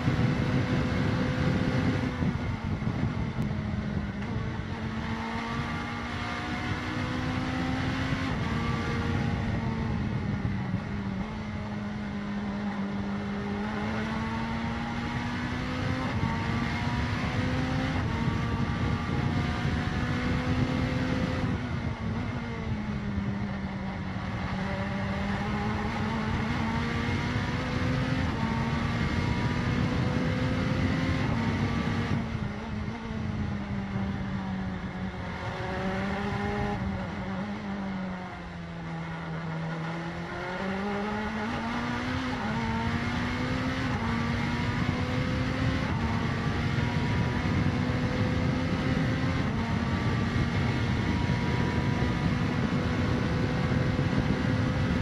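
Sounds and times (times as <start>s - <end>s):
wind and tyre noise: 0.0s - 55.0s
race car engine revving: 4.0s - 55.0s.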